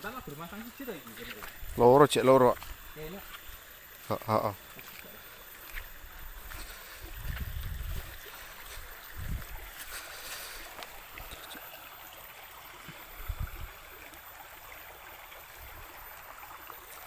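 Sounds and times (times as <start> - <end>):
river water running: 0.0 - 17.0.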